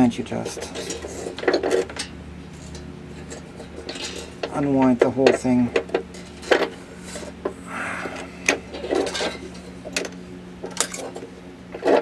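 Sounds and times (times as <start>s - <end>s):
steady low hum: 0.5s - 12.0s.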